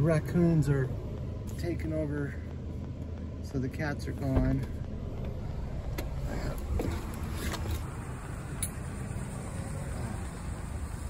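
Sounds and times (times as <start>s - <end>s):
low car rumble: 0.0s - 11.0s.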